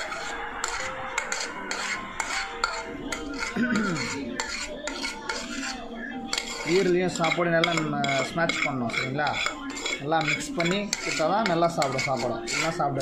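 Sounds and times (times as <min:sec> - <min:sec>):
metal scraping and clinking: 0:00.0 - 0:13.0.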